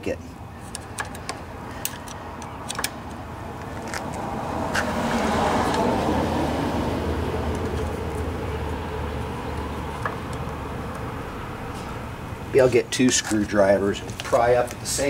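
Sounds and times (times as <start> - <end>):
road vehicle passing: 0.2 - 15.0.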